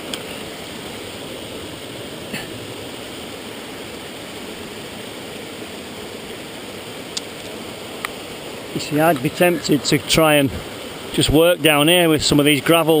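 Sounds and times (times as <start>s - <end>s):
fast-flowing river over rocks: 0.0s - 13.0s.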